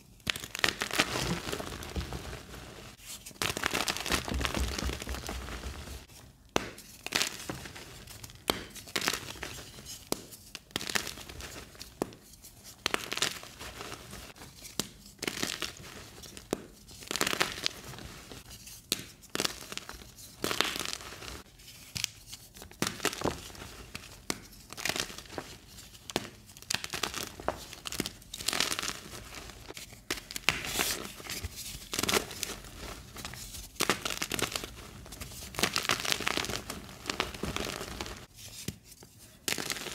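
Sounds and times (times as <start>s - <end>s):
chalk crunching and crumbling: 0.2s - 39.9s.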